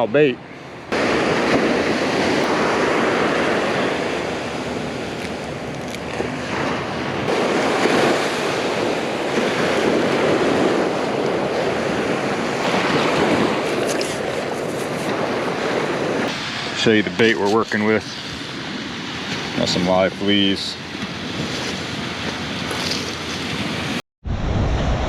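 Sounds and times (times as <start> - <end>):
ocean surf breaking: 0.0 - 25.0.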